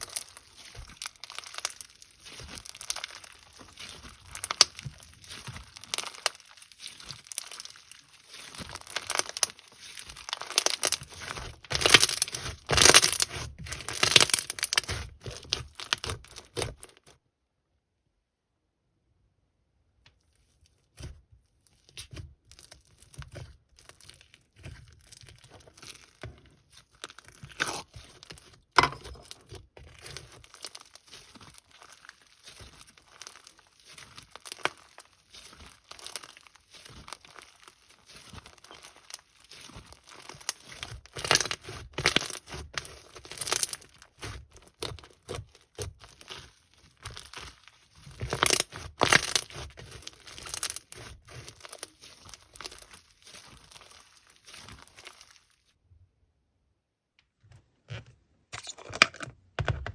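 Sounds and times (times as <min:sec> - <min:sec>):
plastic packaging crinkling: 0:00.0 - 0:17.1, 0:22.5 - 0:55.7.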